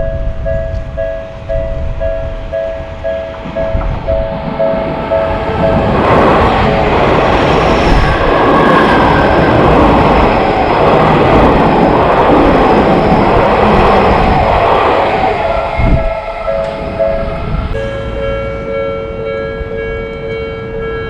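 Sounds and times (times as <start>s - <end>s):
train passing on rails: 0.0s - 21.0s.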